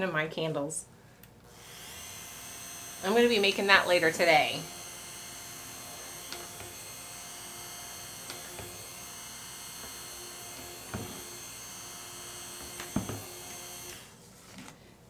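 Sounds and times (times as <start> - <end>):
stick blender motor hum: 1.5 - 14.1.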